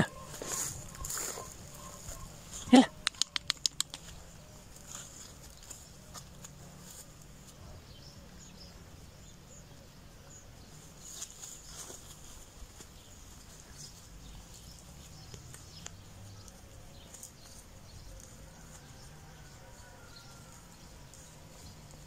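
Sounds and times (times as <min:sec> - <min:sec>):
rustling footsteps in undergrowth: 0:00.0 - 0:03.0, 0:03.8 - 0:07.8, 0:10.6 - 0:22.0.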